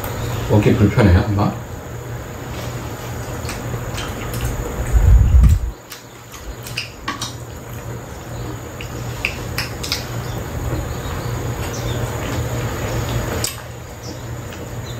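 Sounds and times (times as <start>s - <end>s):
steady low hum: 0.0s - 14.9s
people chewing: 2.4s - 14.8s.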